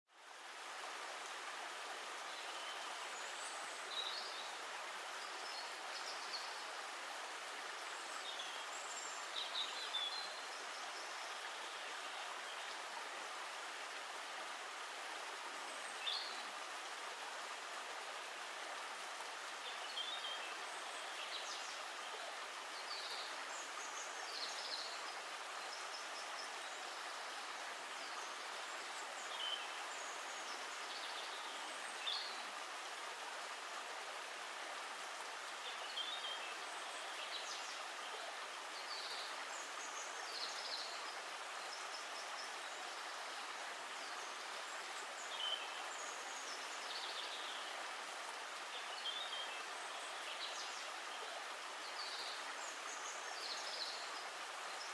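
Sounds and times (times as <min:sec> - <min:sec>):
running water rushing: 0:00.1 - 0:54.9.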